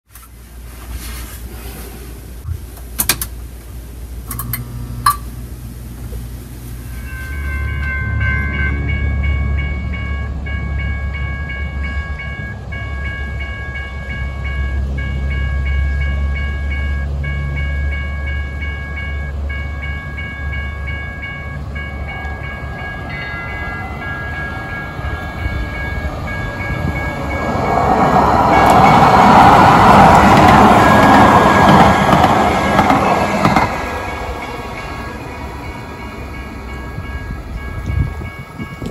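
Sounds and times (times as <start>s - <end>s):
railroad crossing bell ringing: 4.3s - 5.4s, 6.8s - 38.9s
train wheels rumbling on rails: 6.0s - 38.9s.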